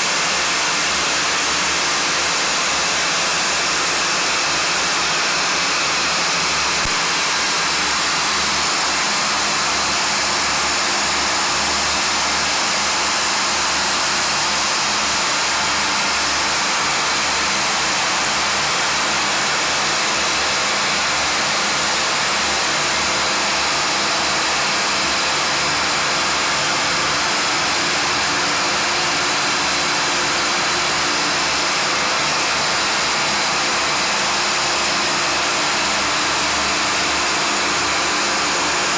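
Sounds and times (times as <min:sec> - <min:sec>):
yarn twisting machine whirring: 0:00.0 - 0:38.9.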